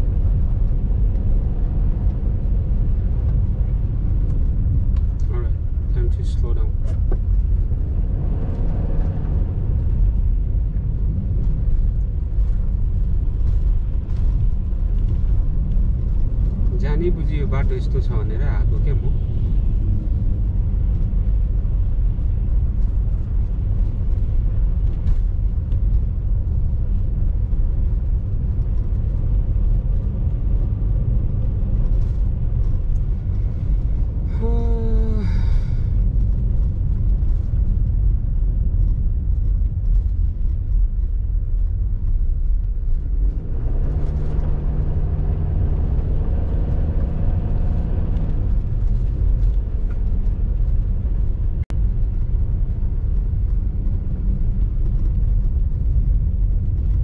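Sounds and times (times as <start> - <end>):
car driving rumble from cabin: 0.0 - 57.0.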